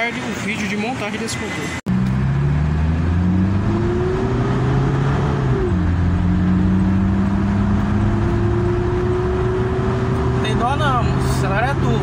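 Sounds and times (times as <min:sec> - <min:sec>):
diesel engine accelerating: 0:01.9 - 0:12.0.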